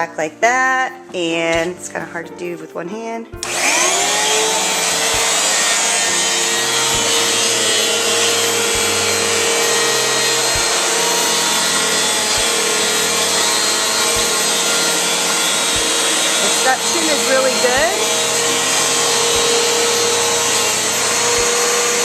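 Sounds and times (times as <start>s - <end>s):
vacuum cleaner running: 3.4s - 22.0s.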